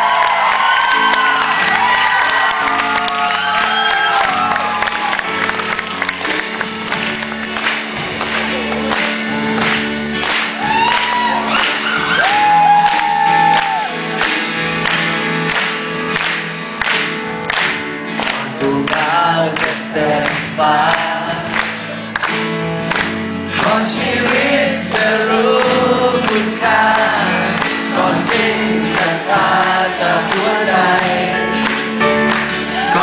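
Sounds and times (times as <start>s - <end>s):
crowd voices: 0.0s - 33.0s
live acoustic rock band: 0.0s - 33.0s.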